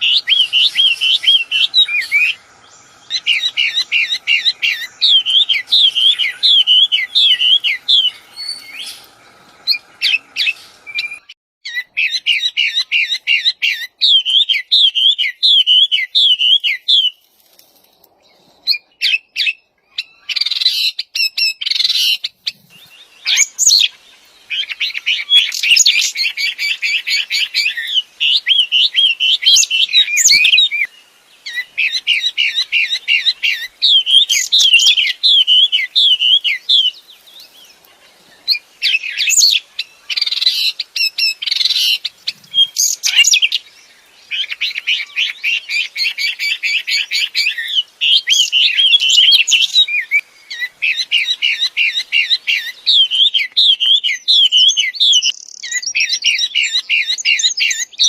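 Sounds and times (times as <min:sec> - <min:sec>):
songbird singing wavering trills: 0:00.0 - 0:17.3, 0:18.3 - 0:58.0.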